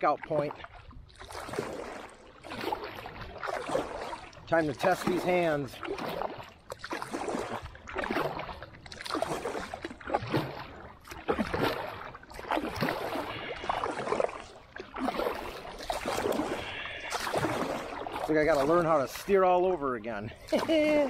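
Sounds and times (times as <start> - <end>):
kayak paddle splashing in water: 0.0 - 21.0.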